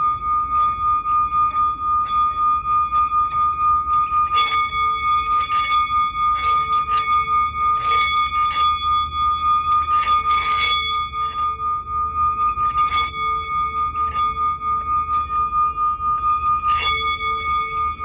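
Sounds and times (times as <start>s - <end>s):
lower bowl tone: 0.0s - 18.0s
singing bowl ringing: 0.0s - 18.0s.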